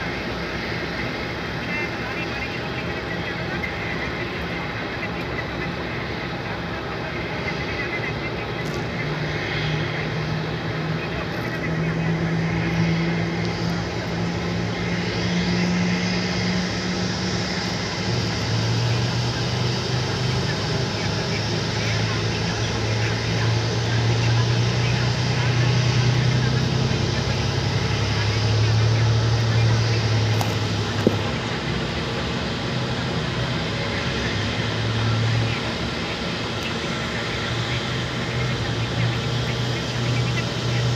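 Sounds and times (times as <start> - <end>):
engine drone with low hum: 0.0 - 40.9.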